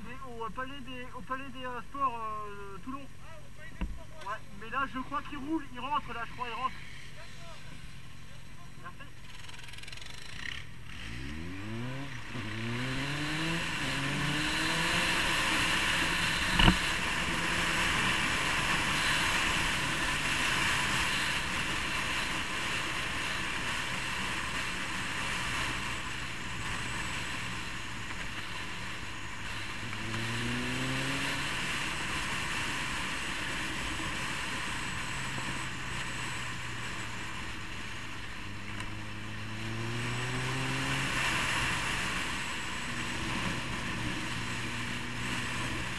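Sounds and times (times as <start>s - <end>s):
motorcycle engine accelerating: 6.9s - 45.9s.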